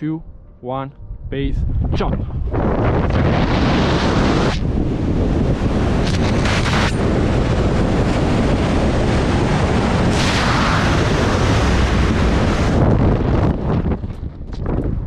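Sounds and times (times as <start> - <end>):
wind buffeting microphone: 1.0 - 15.0.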